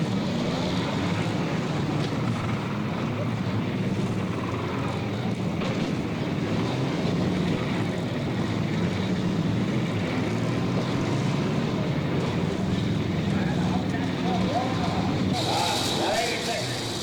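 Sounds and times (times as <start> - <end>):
car engines running: 0.0 - 17.0.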